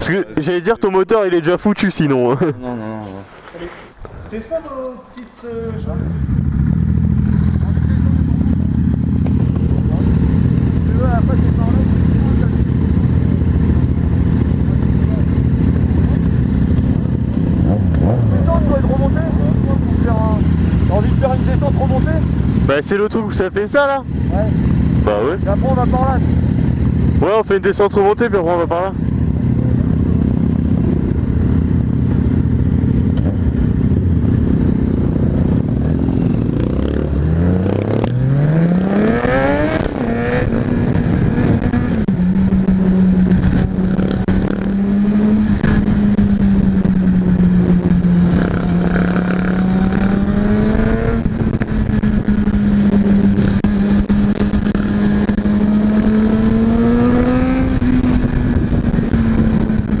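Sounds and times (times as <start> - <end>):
motorcycle engine idling and revving: 4.3 - 60.0.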